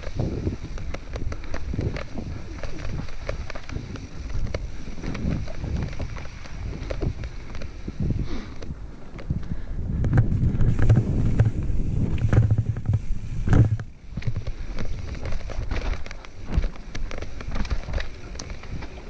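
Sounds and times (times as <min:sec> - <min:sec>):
bike knocks and rattles: 0:00.0 - 0:19.0
bike tyres rumbling over dirt: 0:00.0 - 0:19.0
wind on microphone: 0:00.0 - 0:19.0.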